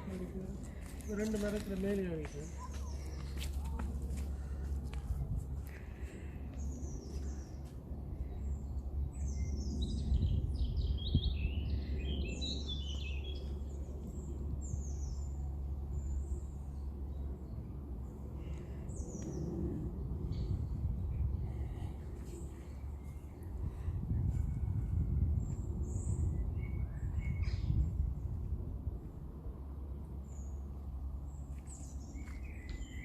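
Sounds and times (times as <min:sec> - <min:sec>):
songbirds chirping and trilling: 0:00.0 - 0:33.0
steady low rumble: 0:00.0 - 0:33.0.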